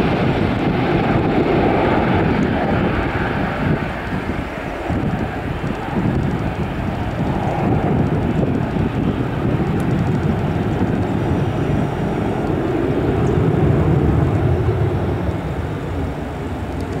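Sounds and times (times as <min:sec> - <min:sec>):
jet engines at take-off thrust: 0:00.0 - 0:17.0.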